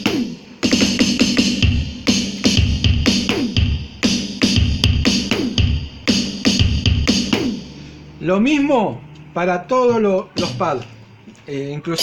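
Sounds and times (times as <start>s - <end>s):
electronic drum kit beat: 0.0s - 9.1s, 9.8s - 11.3s.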